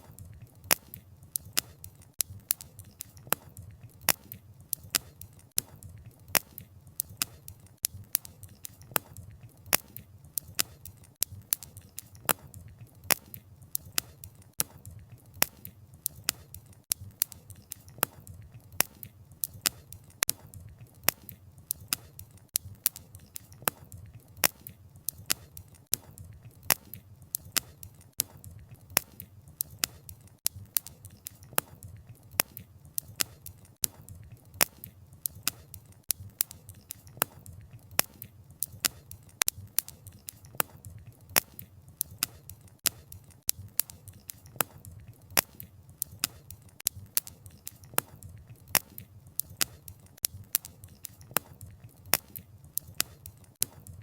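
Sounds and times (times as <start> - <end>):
firewood popping and snapping: 0.3 - 53.9.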